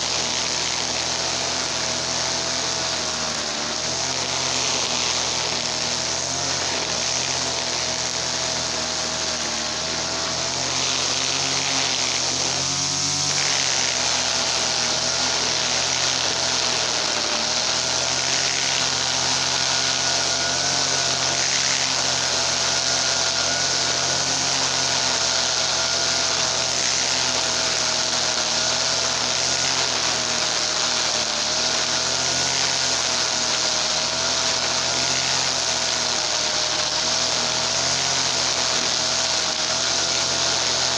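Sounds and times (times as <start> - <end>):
brush cutter engine running: 0.0 - 40.9.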